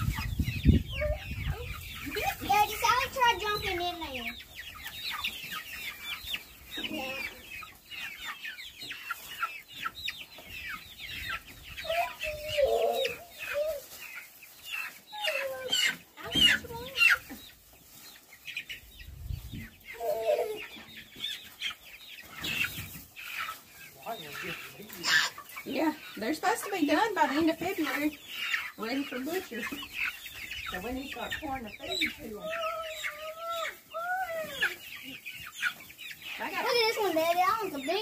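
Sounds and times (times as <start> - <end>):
chicks peeping: 0.0 - 38.0.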